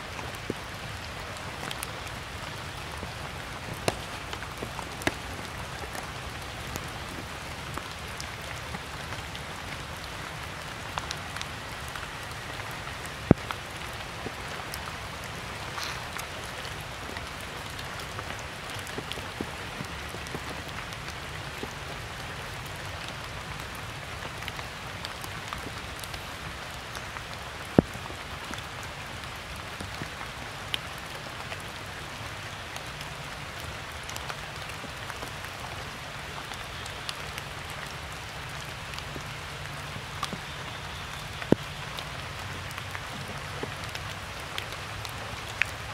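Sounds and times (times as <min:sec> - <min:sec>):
rain falling on stones and leaves: 0:00.0 - 0:45.9.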